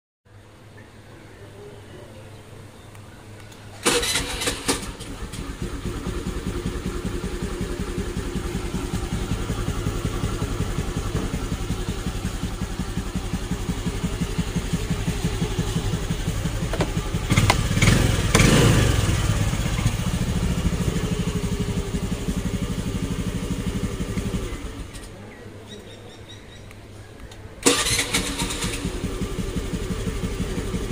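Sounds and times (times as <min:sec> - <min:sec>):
scooter engine idling: 0:03.8 - 0:26.2, 0:27.6 - 0:30.9.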